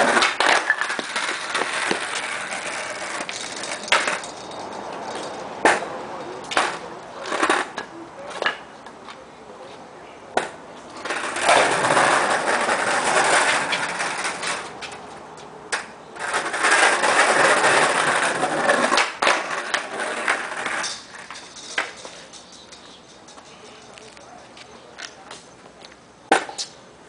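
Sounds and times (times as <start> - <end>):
skateboard clacking on ground: 0.0 - 9.2, 10.3 - 26.8
skateboard wheels rolling on concrete: 0.0 - 27.0.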